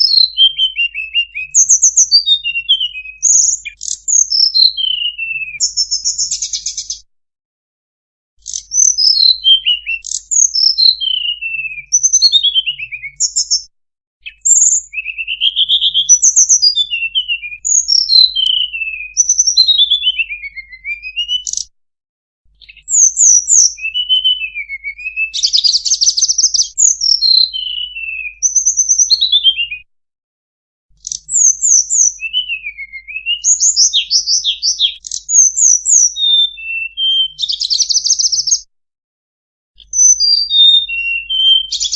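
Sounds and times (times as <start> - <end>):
recorded bird song whistles and trills: 0.0 - 7.1, 8.4 - 21.7, 22.5 - 29.9, 30.9 - 38.7, 39.8 - 41.9.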